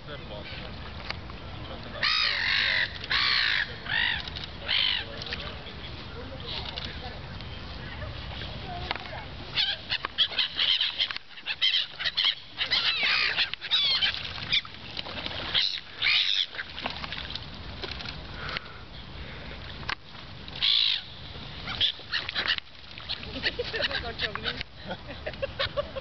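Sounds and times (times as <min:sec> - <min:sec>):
gulls calling: 0:00.0 - 0:17.2, 0:20.5 - 0:26.0.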